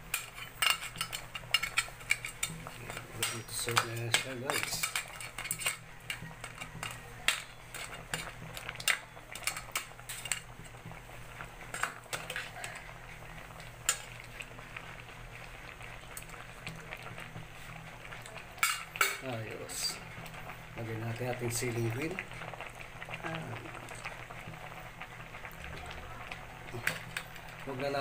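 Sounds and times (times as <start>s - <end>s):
food simmering in a pot: 0.0s - 28.0s.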